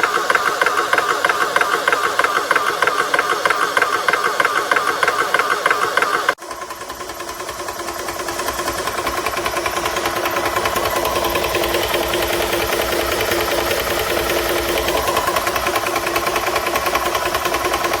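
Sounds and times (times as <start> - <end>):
air compressor pump chugging: 0.0 - 18.0.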